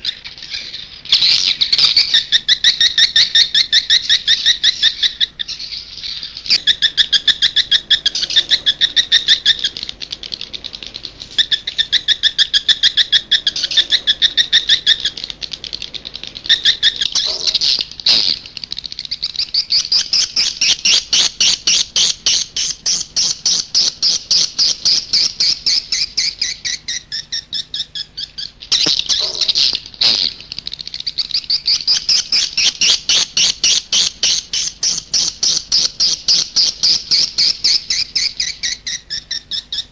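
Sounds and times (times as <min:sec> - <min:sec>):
high twittering bird chirps: 0:00.0 - 0:39.9.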